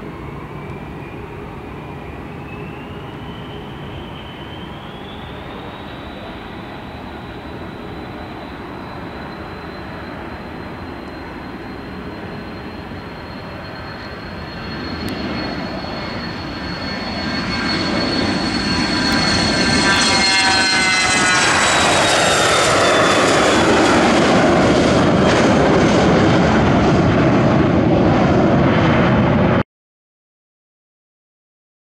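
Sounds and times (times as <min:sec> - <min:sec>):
jet taking off with high whine: 0:00.0 - 0:29.6.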